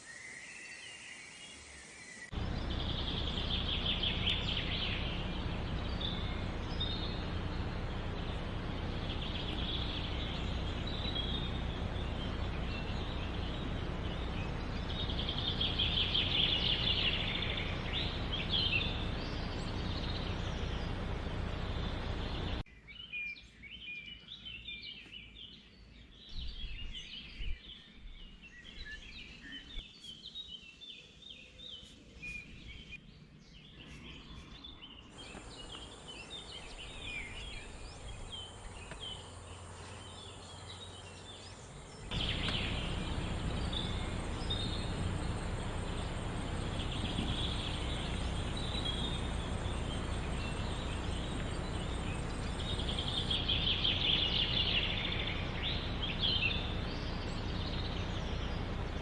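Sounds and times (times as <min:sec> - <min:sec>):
outdoor background noise: 0:00.0 - 0:59.0
birds chirping and calling: 0:02.3 - 0:59.0.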